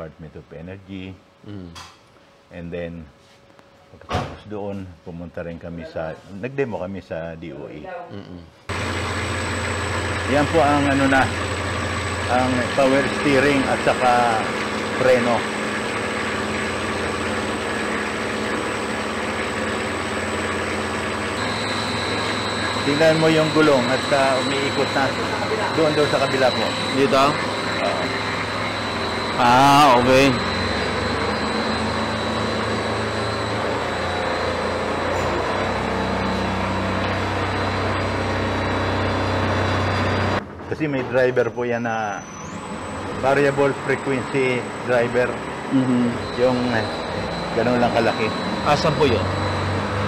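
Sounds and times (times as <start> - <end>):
electric motor hum with whine: 7.4 - 40.4, 41.7 - 50.0.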